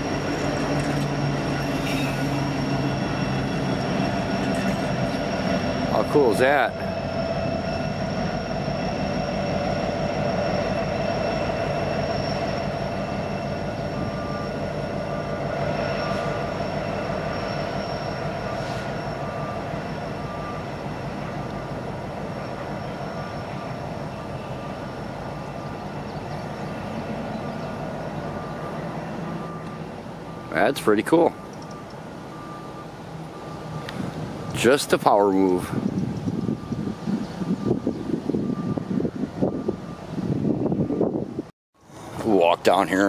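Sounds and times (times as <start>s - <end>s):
diesel locomotive rumble: 0.0s - 43.0s
high whine: 0.0s - 43.0s.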